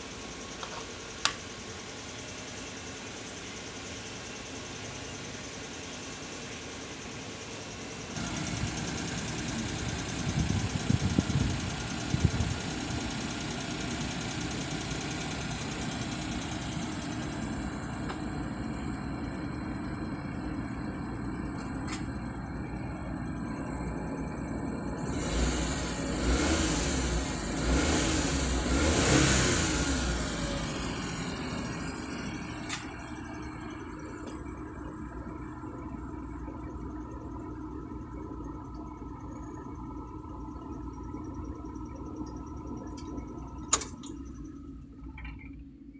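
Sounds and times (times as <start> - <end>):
engine idling and revving: 8.0 - 45.9.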